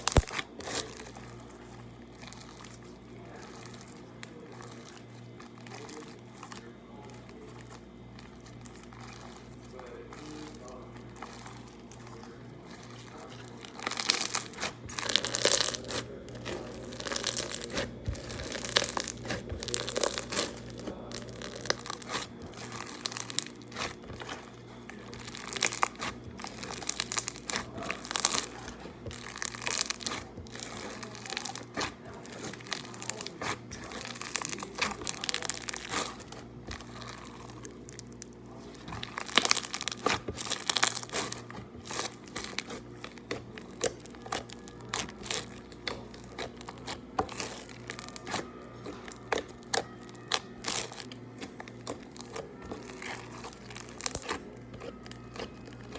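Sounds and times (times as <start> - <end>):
slime crackling and crinkling: 0.0 - 55.9
steady low hum: 0.0 - 55.9.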